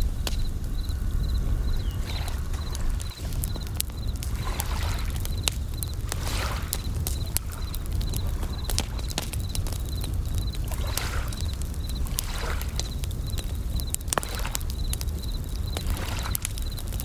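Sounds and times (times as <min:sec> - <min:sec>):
campfire crackling and popping: 0:00.0 - 0:17.0
crickets chirping: 0:00.0 - 0:17.0
waves washing in: 0:00.0 - 0:17.0.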